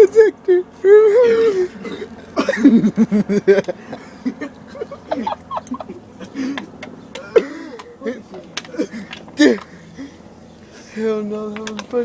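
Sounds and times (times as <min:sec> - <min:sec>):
people laughing: 0:00.0 - 0:10.2.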